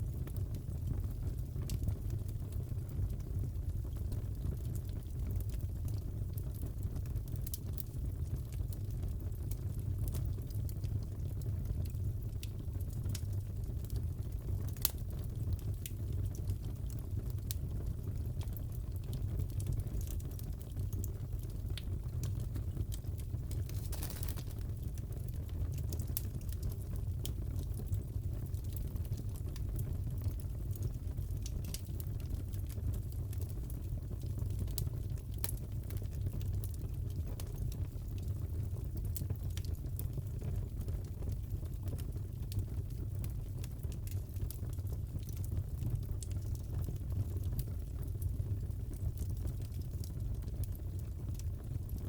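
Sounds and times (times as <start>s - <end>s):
wood fire crackling: 0.0s - 52.0s
fire popping and snapping: 0.1s - 52.0s.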